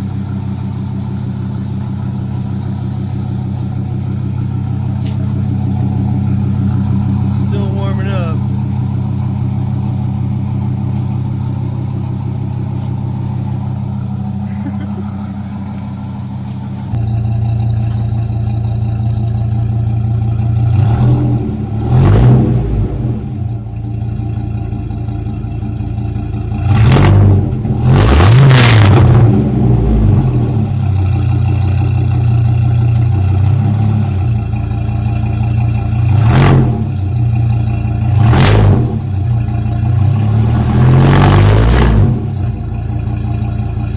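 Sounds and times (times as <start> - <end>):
engine idling and revving: 0.0 - 43.9.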